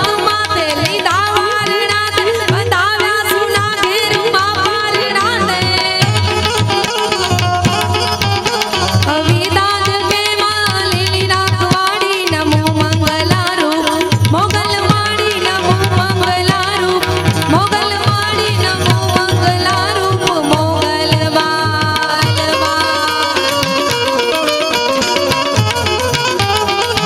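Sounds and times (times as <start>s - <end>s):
woman singing: 0.0s - 7.8s, 8.9s - 24.7s
harmonium: 0.0s - 27.0s
tablas playing quick rhythm: 0.0s - 27.0s.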